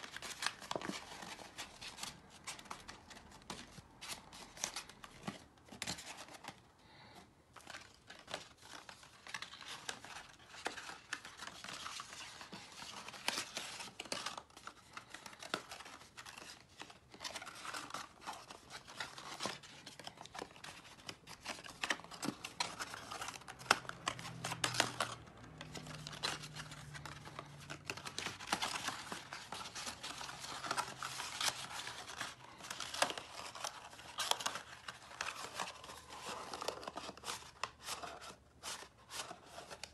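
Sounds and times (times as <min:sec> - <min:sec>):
cardstock rustling and crinkling: 0:00.0 - 0:39.9.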